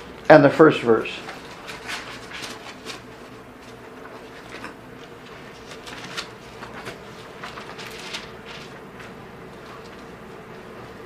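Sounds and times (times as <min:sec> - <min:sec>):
low room hum: 0:00.0 - 0:11.0
book pages rustling: 0:01.2 - 0:10.7.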